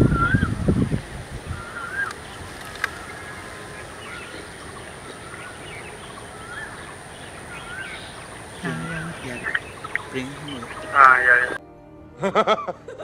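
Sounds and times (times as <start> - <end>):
birds chirping: 0.0 - 11.6
outdoor background hum: 1.0 - 11.6.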